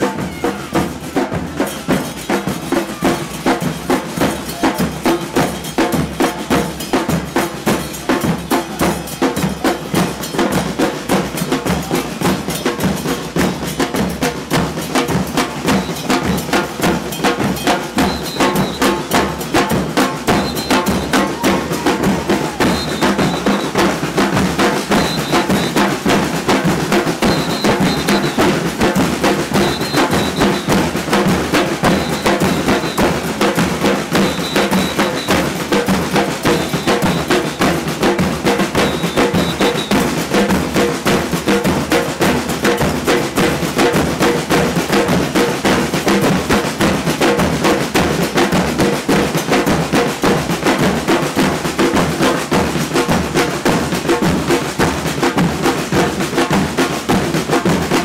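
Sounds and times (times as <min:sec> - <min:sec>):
drum section playing fast rhythm: 0:00.0 - 0:58.0.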